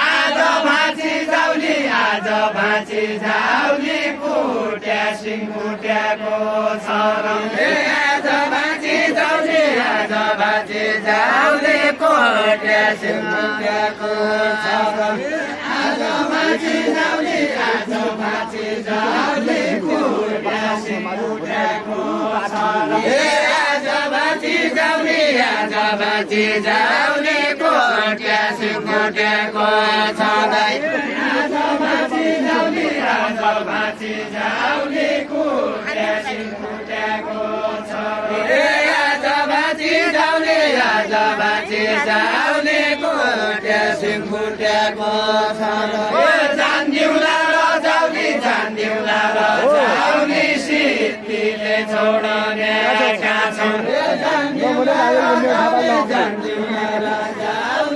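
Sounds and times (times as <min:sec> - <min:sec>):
voices singing a folk chant: 0:00.0 - 0:57.9.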